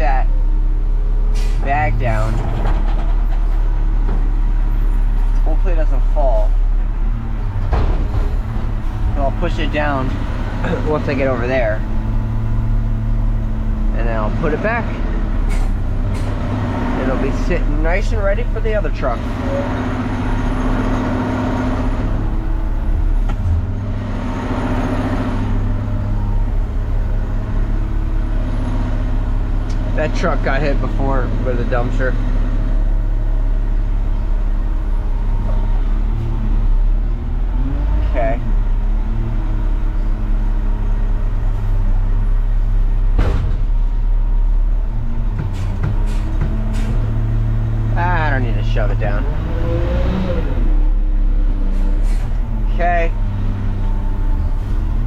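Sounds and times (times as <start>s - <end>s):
garbage truck engine running: 0.0s - 55.0s.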